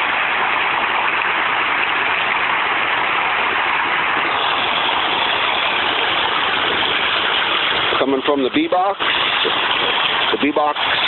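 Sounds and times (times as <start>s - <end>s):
water rushing from burst pipe: 0.0s - 11.0s.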